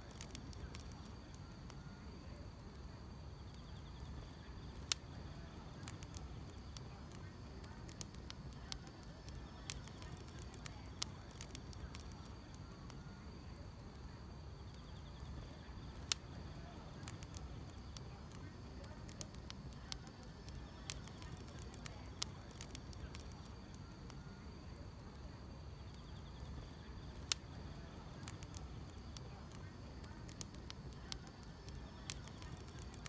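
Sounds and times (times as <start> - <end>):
wood fire crackling and popping: 0.0 - 33.0
insects chirping: 3.0 - 33.0.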